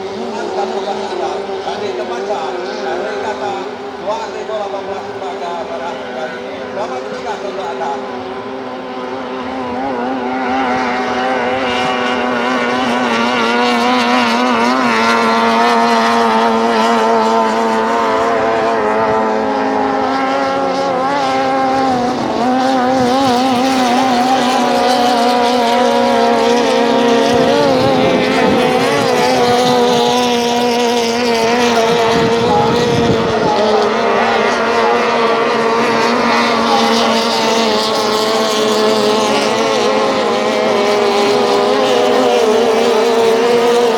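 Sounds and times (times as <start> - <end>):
racing boat outboard motors: 0.0 - 43.9.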